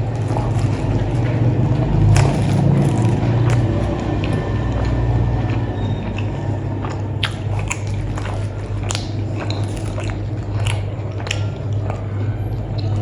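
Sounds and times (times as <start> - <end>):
person chewing food: 0.0 - 13.0
steady low hum: 0.0 - 13.0.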